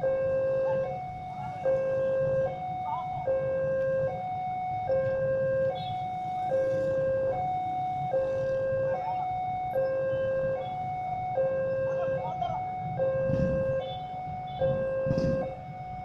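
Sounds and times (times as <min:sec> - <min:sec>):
two-tone level crossing alarm: 0:00.0 - 0:16.0.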